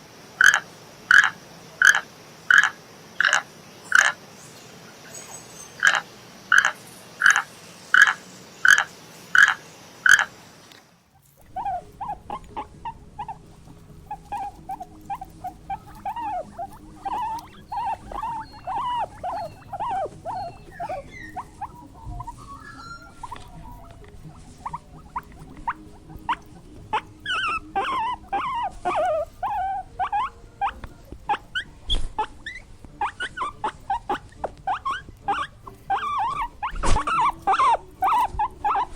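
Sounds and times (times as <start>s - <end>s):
frog croaking: 0.4s - 4.2s, 5.8s - 10.4s, 11.2s - 38.9s
small animal squeaking and whimpering: 6.6s - 10.3s, 11.2s - 38.9s.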